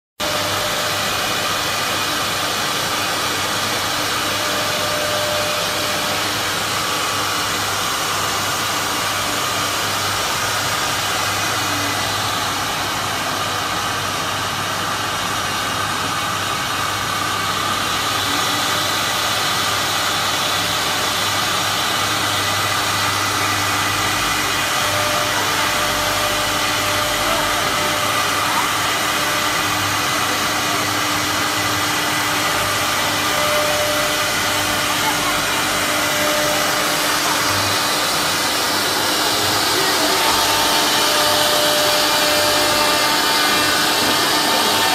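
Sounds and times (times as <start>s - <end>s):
wood router rushing noise: 0.2s - 44.9s.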